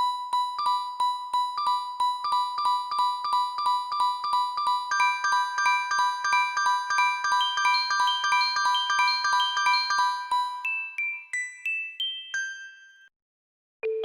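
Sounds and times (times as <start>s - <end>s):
bell-like mallet ringtone melody: 0.0s - 13.1s.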